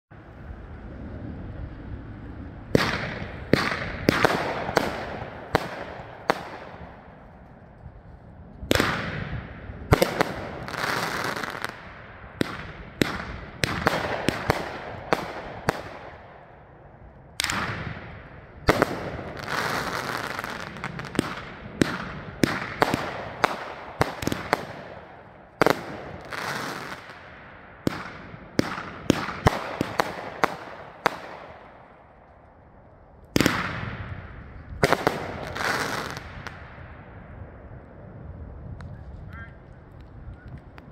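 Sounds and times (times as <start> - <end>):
fireworks launching and bursting: 0.5 - 38.9.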